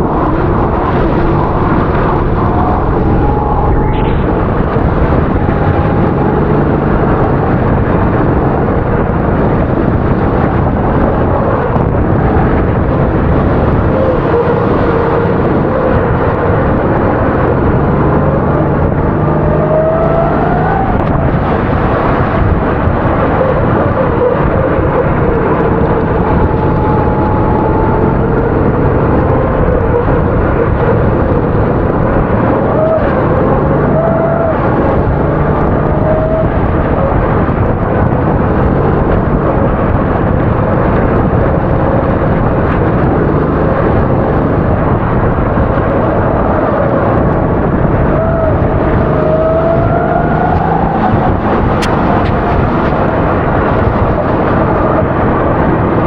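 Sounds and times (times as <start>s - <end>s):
racing kart engines revving: 0.0s - 56.0s.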